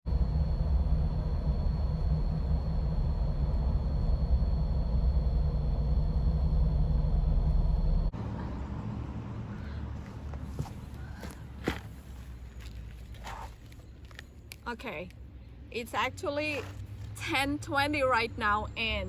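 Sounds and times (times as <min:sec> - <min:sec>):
car driving rumble: 0:00.1 - 0:19.0.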